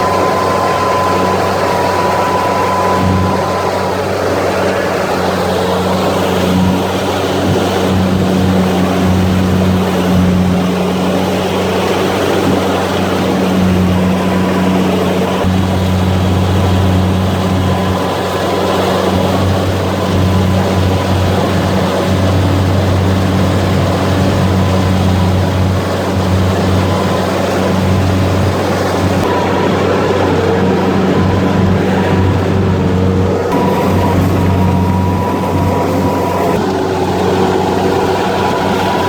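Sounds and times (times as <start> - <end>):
combine harvester engine drone: 0.0 - 39.0
threshing machinery rushing: 0.0 - 39.0.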